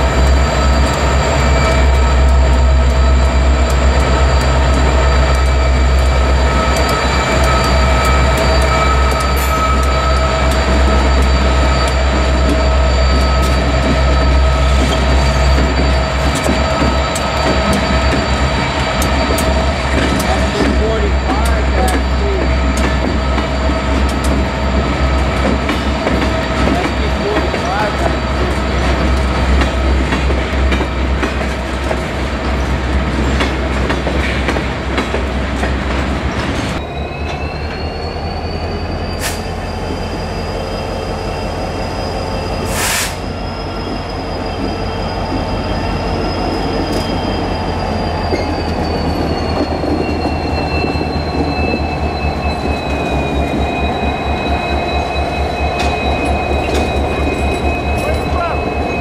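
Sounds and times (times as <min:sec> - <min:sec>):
diesel locomotive engines pulsing: 0:00.0 - 0:59.0.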